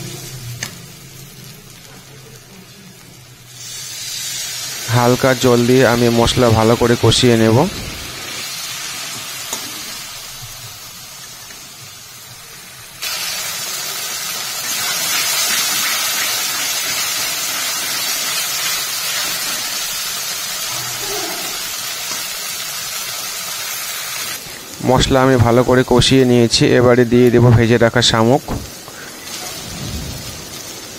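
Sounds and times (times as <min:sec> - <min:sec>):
masala sizzling in hot oil: 0:00.0 - 0:30.9.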